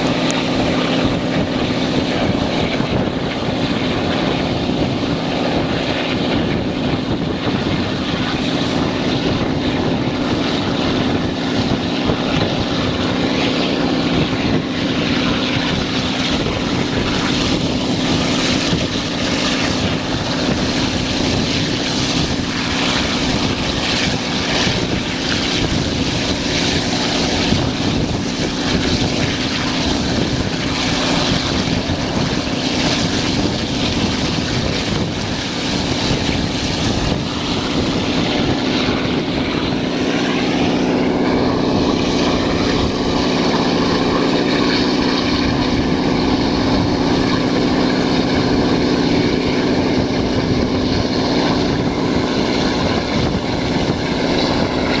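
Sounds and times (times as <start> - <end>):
diesel locomotive engine droning: 0.0 - 55.0
wheel and air noise rushing: 0.0 - 55.0.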